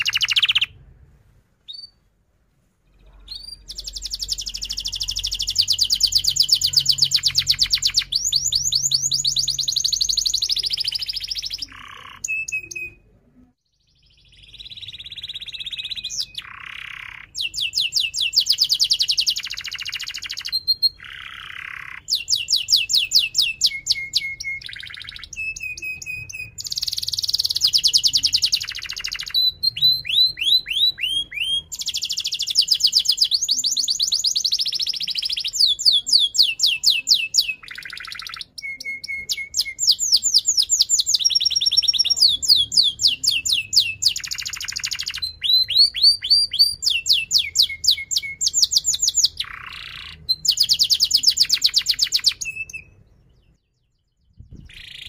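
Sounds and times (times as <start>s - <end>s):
canary singing trills: 0.0s - 0.9s, 1.6s - 2.1s, 2.7s - 13.1s, 13.7s - 55.0s.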